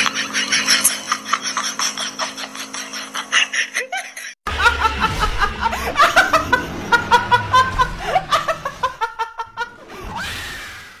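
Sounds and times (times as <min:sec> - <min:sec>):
high-pitched laughter: 0:00.0 - 0:09.9.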